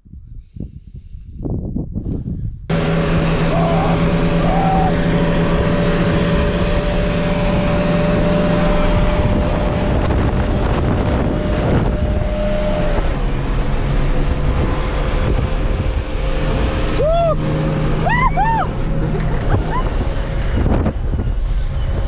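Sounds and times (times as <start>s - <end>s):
wind rushing over microphone: 0.0s - 22.0s
car engine whining while driving: 2.7s - 22.0s.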